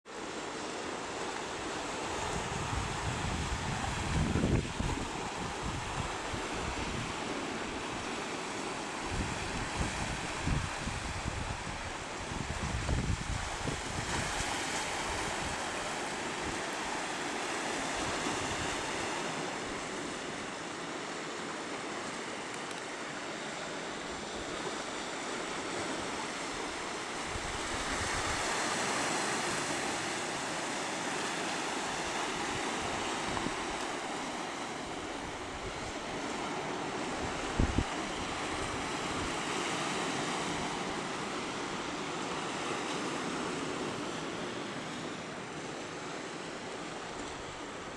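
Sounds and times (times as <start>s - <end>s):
wind: 0.0s - 47.9s
surf washing over rocks: 0.1s - 47.9s.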